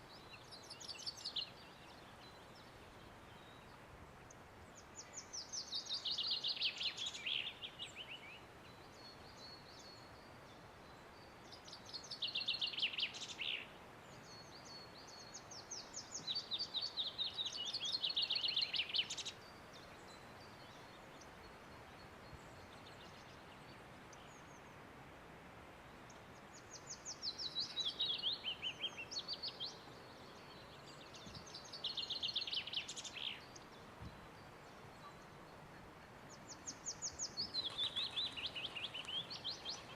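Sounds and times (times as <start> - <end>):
faint outdoor hiss: 0.0 - 39.9
songbird singing: 0.0 - 39.9.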